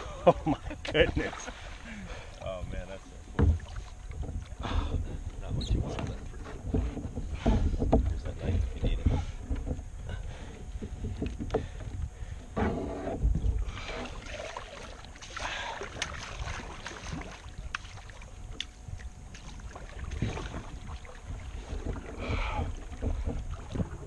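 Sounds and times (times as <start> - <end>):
water splashing against kayak hull: 0.0 - 24.0
wind rumble on microphone: 2.6 - 14.4, 15.4 - 24.0.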